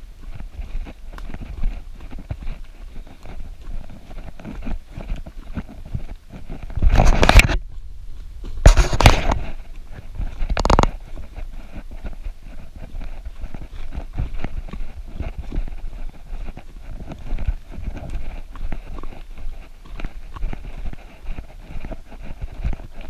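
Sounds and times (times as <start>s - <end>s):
running footsteps on dirt trail: 0.0s - 23.0s.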